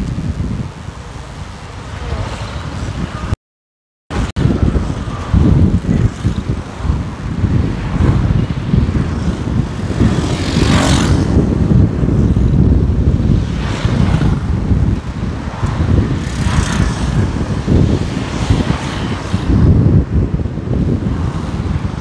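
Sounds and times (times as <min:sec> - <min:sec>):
vehicle road noise: 0:00.0 - 0:03.4, 0:04.1 - 0:22.0
wind buffeting microphone: 0:00.0 - 0:03.4, 0:04.1 - 0:22.0.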